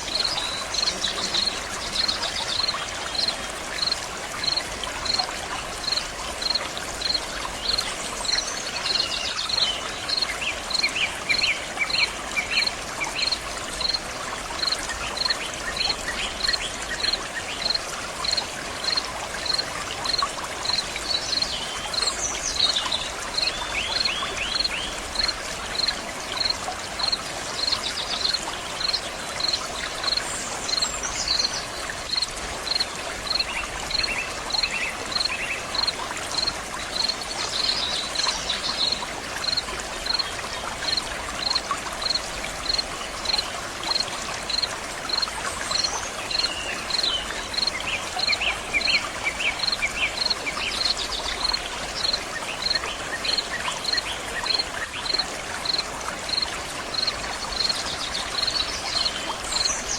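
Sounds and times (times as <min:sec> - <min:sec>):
water flowing and splashing: 0:00.0 - 0:59.9.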